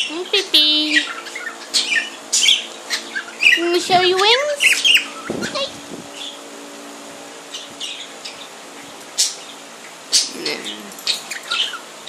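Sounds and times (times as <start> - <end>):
budgerigars chirping: 0.0 - 6.4, 7.4 - 11.9
electric fan humming: 0.0 - 12.0.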